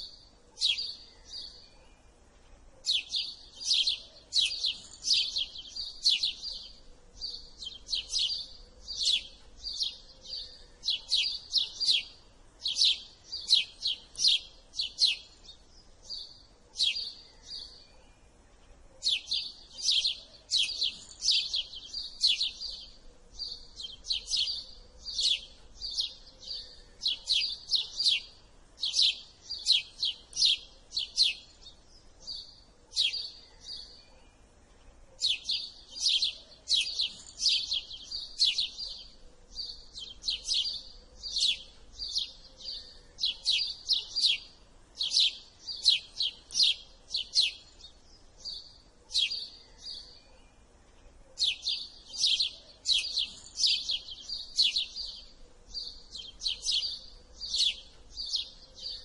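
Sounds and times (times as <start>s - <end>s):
sparrow chirping: 0.0s - 59.0s.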